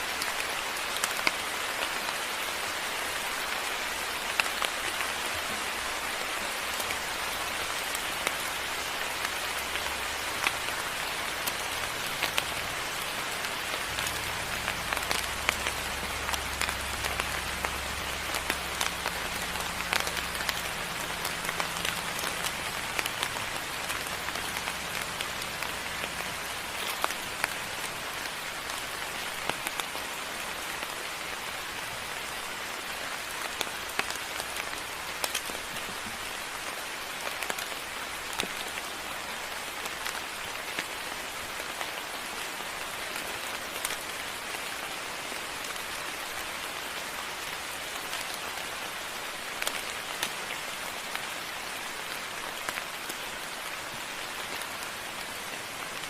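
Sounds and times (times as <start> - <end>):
raindrops ticking on surface: 0.0 - 56.0
steady rain falling: 0.0 - 56.0.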